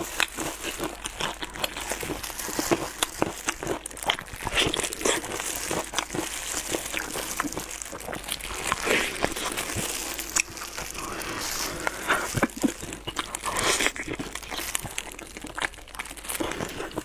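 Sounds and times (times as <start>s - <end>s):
plastic gloves crinkling: 0.0s - 17.0s
wet tearing of meat: 1.4s - 17.0s.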